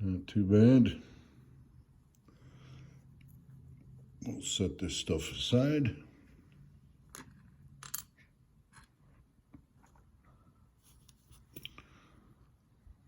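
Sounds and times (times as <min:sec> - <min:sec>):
quiet room hum: 0:00.0 - 0:13.0.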